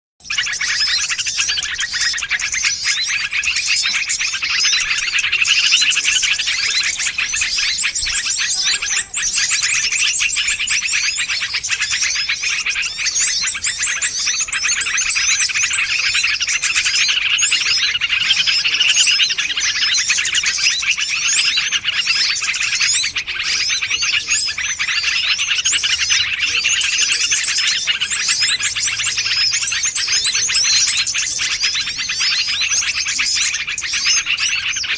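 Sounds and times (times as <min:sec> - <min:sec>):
many small birds chirping: 0:00.2 - 0:34.9.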